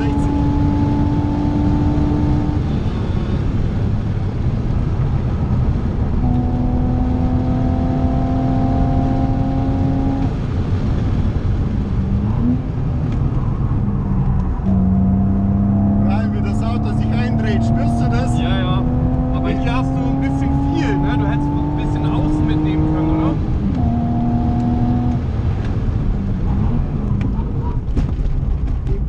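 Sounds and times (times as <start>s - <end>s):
car engine running at speed: 0.0s - 29.0s
road and tyre noise: 0.0s - 29.0s.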